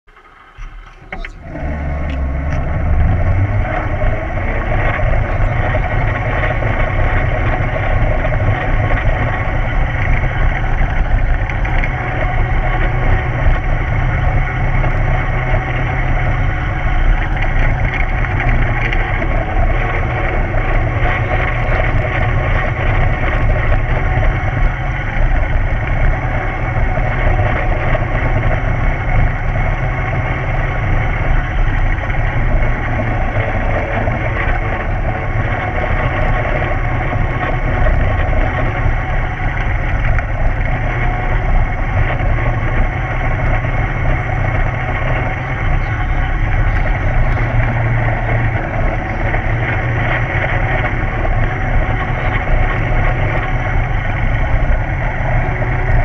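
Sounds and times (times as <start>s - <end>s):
go-kart engine: 0.0s - 56.0s.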